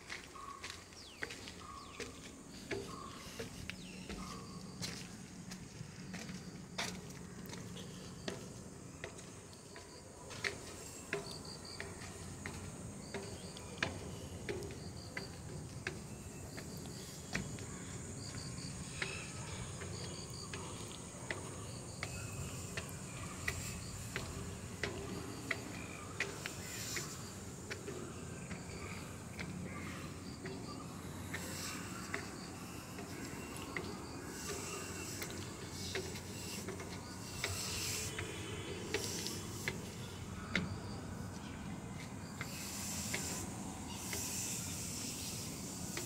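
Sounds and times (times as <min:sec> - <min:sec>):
footsteps on metal stairs: 0:00.0 - 0:42.6
insect high drone: 0:00.0 - 0:46.0
insects chirping: 0:00.0 - 0:46.0.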